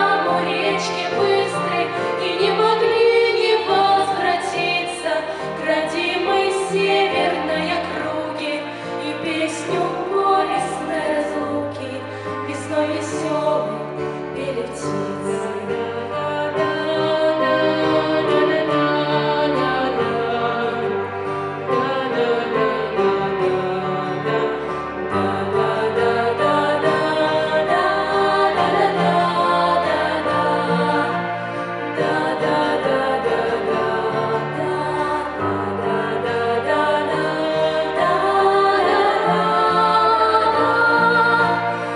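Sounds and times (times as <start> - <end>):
vocal trio singing in harmony: 0.0 - 41.9.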